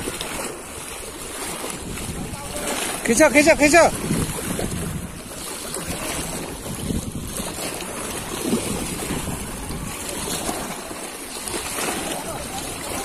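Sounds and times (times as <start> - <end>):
small waves against stone: 0.0 - 13.0
wind buffeting microphone: 0.0 - 13.0.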